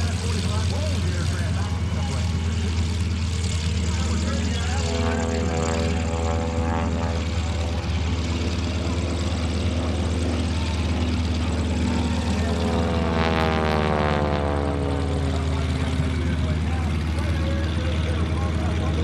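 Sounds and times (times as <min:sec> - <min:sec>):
propeller plane engine: 0:00.0 - 0:19.0.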